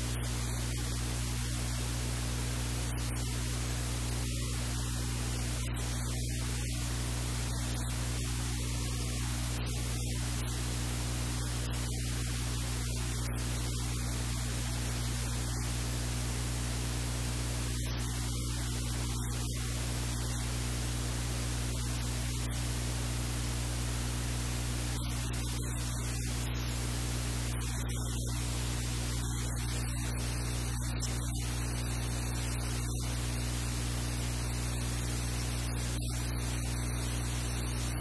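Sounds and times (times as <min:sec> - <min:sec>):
low electrical hum: 0:00.0 - 0:38.0
steady hiss: 0:00.0 - 0:38.0.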